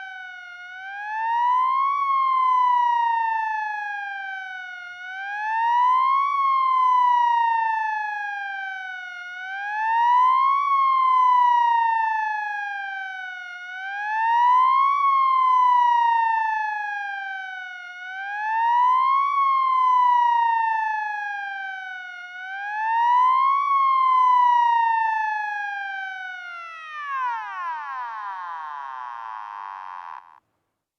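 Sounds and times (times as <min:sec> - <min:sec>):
emergency vehicle wail siren: 0:00.0 - 0:30.4.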